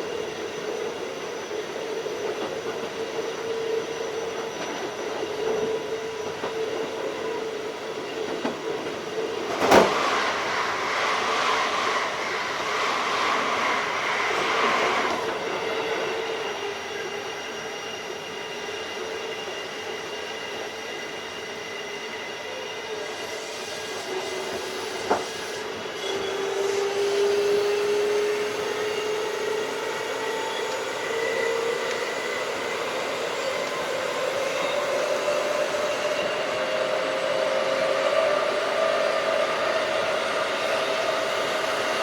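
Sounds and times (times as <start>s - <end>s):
electric train humming: 0.0s - 42.0s.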